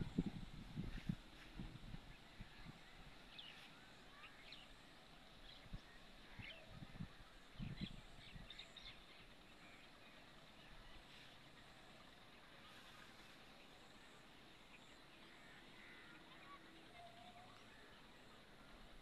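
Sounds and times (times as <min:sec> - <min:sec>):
faint bird chirps: 0:02.1 - 0:19.0.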